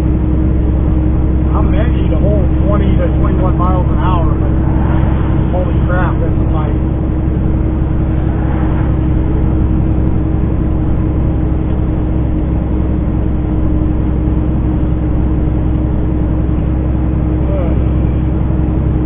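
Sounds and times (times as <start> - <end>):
constant engine whine: 0.0 - 19.0
diesel truck engine labouring: 0.0 - 19.0.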